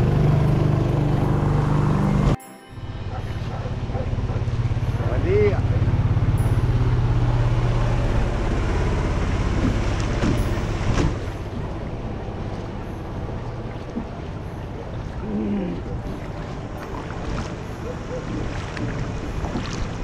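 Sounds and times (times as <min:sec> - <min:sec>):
motorboat engine throbbing: 0:00.0 - 0:20.0
water noise: 0:00.0 - 0:20.0.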